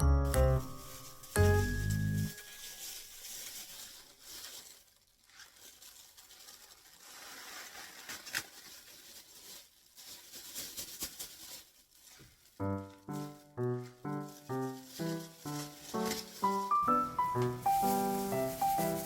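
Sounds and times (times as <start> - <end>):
rustling and crinkling: 0.2 - 19.0.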